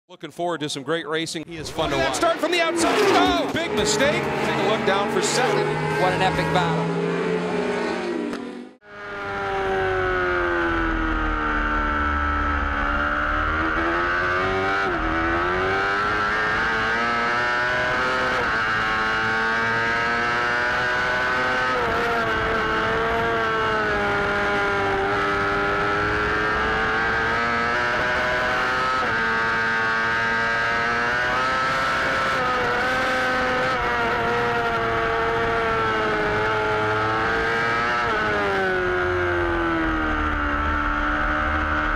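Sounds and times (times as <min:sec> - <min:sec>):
race bike engine at high revs: 0:01.5 - 0:41.9.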